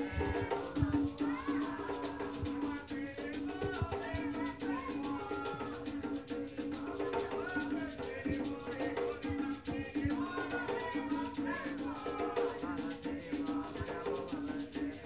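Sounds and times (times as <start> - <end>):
hand drum beating: 0.0 - 15.0
rattle shaking: 0.0 - 15.0
voices singing a chant: 0.0 - 15.0.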